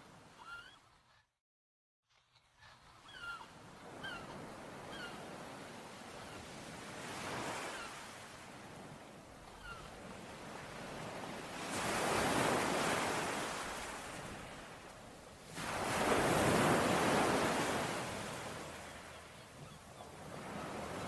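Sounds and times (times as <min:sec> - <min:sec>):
ocean waves breaking on shore: 0:02.9 - 0:21.0.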